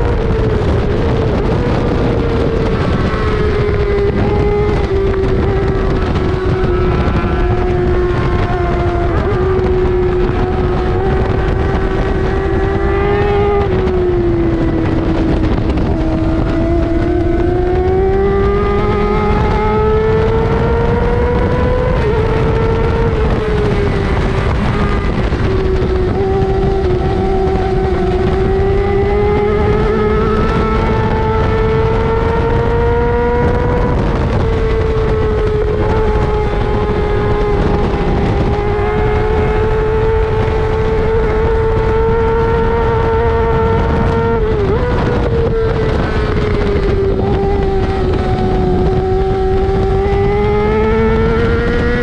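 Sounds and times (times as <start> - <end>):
sport bike engine revving: 0.0 - 52.0
wind rushing: 0.0 - 52.0.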